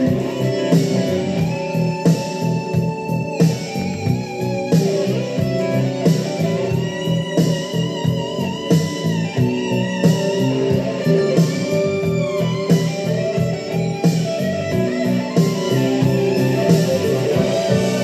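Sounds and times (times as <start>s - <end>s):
rock music with electric guitar: 0.0s - 18.0s.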